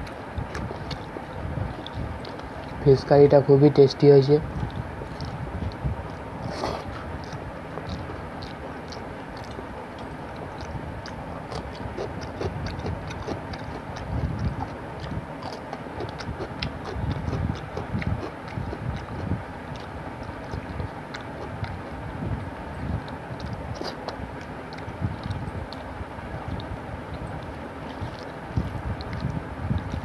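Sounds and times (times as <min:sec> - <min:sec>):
chewing and lip-smacking: 0:00.0 - 0:30.0.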